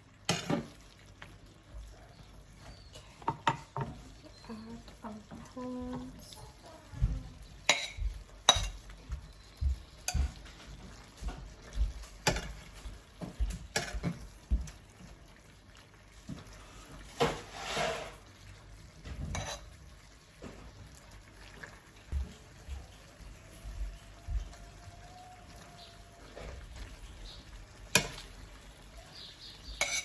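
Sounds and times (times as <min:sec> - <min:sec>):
utensil stirring in a pan: 0:00.0 - 0:30.0.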